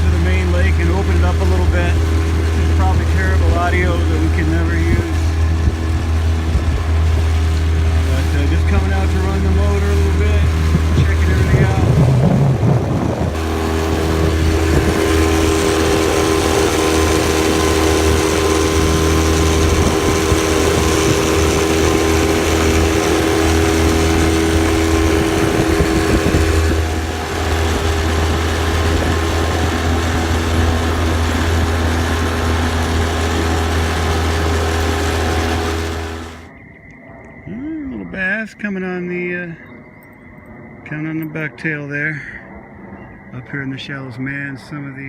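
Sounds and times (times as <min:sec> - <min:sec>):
boat motor at full throttle: 0:00.0 - 0:36.5
wind and water rushing: 0:00.0 - 0:36.6.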